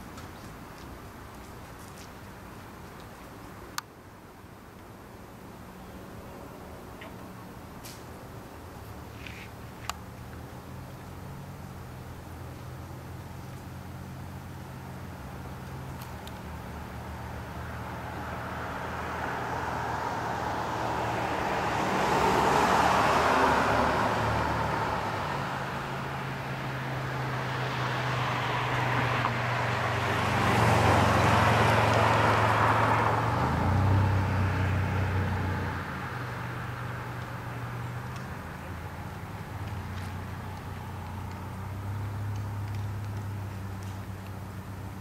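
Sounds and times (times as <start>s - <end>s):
cars passing: 5.2s - 45.0s
low engine hum: 5.6s - 45.0s.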